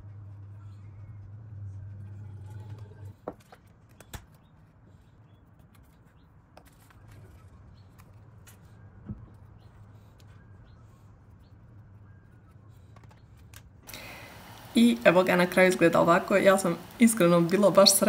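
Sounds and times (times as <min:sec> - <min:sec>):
low steady hum: 0:00.0 - 0:03.3, 0:06.8 - 0:18.0.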